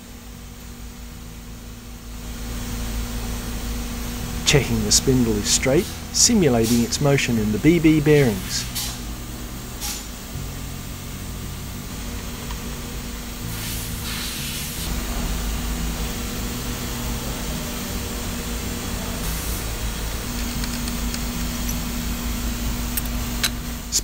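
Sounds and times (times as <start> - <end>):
constant low tones: 0.0 - 13.5, 14.9 - 24.0
workshop machinery hiss and hum: 0.0 - 24.0.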